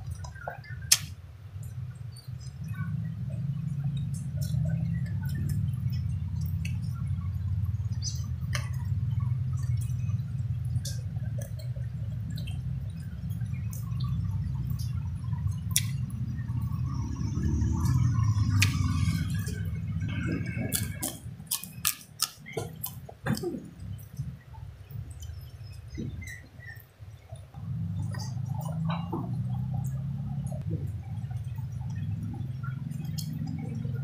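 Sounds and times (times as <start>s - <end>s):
steady low rumble: 0.0s - 21.8s, 23.4s - 34.0s
wet chewing with mouth clicks: 0.0s - 34.0s.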